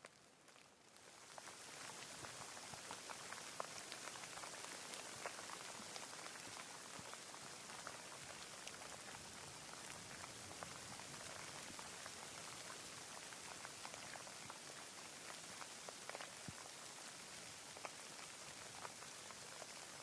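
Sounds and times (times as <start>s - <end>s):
steady rain with drops ticking: 0.0s - 20.0s.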